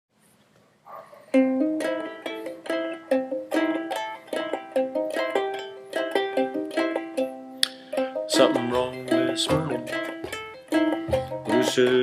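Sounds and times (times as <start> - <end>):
ukulele plucked and strummed: 1.3 - 12.0.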